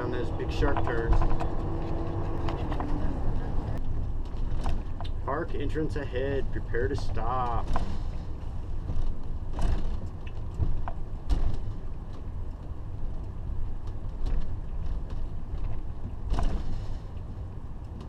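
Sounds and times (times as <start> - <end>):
knocks and rattles: 0.0 - 5.1, 7.0 - 17.1
engine and road rumble: 0.0 - 18.0.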